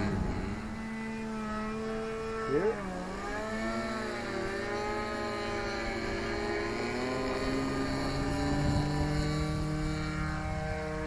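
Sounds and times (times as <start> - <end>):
model airplane engine running: 0.0 - 11.0.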